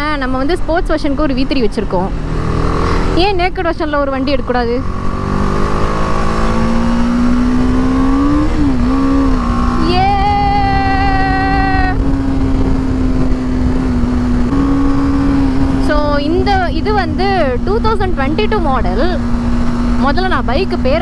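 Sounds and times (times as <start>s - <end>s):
motorcycle engine revving: 0.0s - 21.0s
wind noise: 0.0s - 21.0s.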